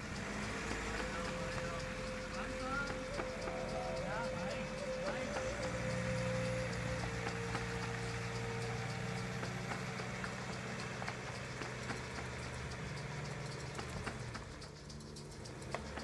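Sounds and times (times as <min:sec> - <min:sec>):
diesel engine running: 0:00.0 - 0:16.0
light clicks: 0:00.0 - 0:16.0.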